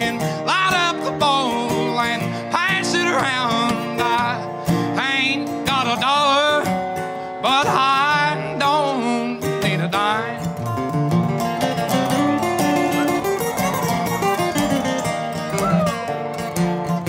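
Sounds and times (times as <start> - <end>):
acoustic country guitars: 0.0 - 17.0
sliding resonator guitar melody: 0.0 - 17.0.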